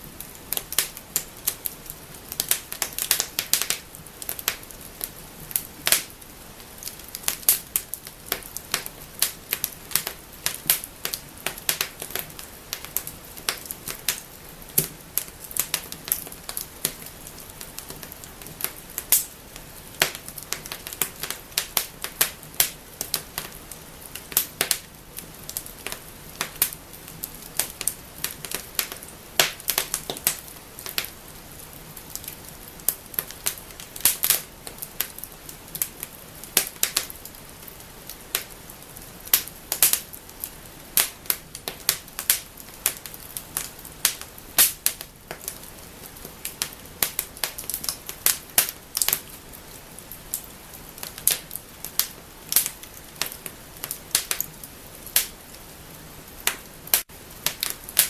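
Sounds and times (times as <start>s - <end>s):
wood fire crackling and snapping: 0.0s - 58.0s.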